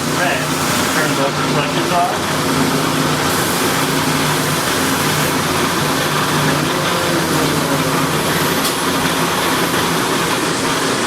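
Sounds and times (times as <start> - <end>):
metal lathes humming and whirring: 0.0 - 11.0.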